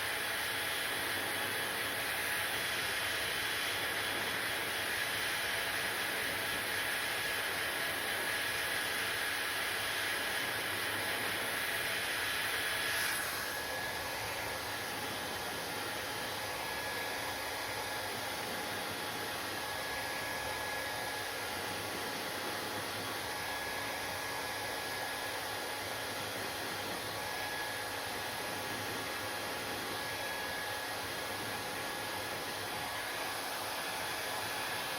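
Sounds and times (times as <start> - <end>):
hair dryer blowing: 0.0 - 34.9.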